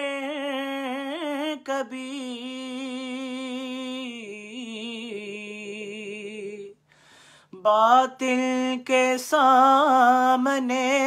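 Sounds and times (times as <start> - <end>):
man singing unaccompanied: 0.0 - 6.8, 7.5 - 11.0.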